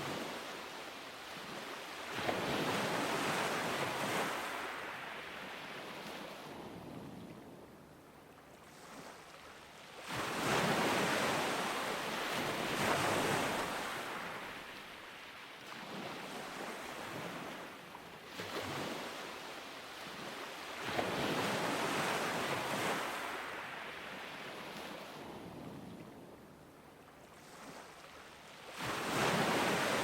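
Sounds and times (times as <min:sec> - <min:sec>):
ocean waves breaking on beach: 0:00.0 - 0:30.0.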